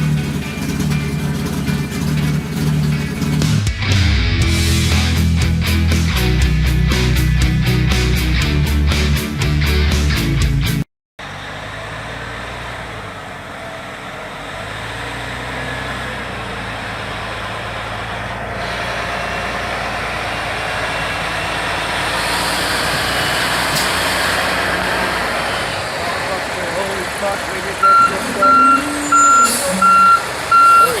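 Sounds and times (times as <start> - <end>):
truck diesel engine running: 0.0 - 10.3, 11.2 - 31.0.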